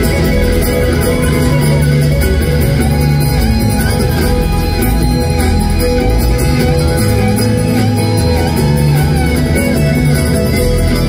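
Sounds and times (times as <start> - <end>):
acoustic guitar picking: 0.0 - 11.0
fiddle: 0.0 - 11.0
mandolin: 0.0 - 11.0
upright bass: 0.0 - 11.0.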